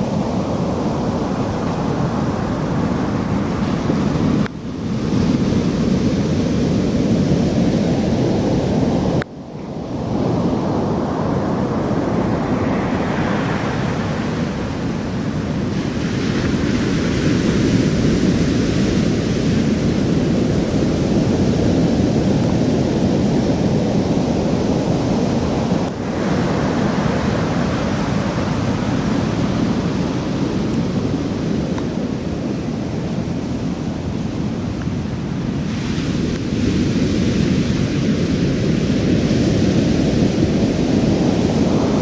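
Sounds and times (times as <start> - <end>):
ocean surf breaking: 0.0 - 42.0.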